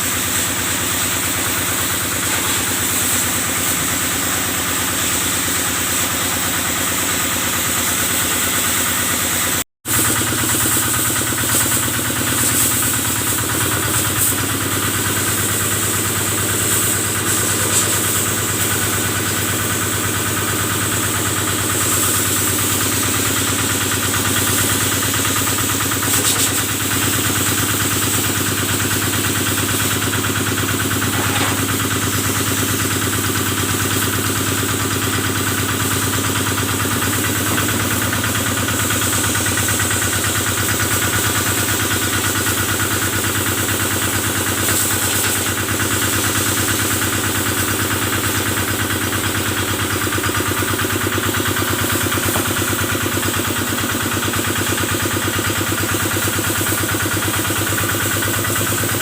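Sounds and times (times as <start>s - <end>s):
stationary engine running steadily: 0.0s - 59.0s
water sprayer: 0.0s - 59.0s.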